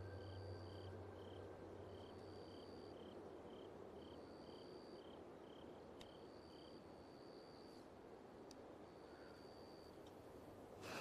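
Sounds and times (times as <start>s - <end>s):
crickets chirping: 0.0s - 7.8s, 8.8s - 10.0s.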